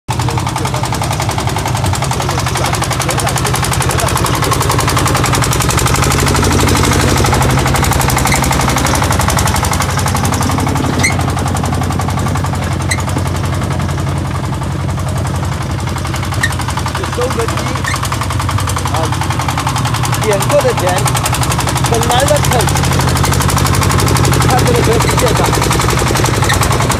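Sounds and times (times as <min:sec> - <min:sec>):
diesel engine running under load: 0:00.1 - 0:26.9.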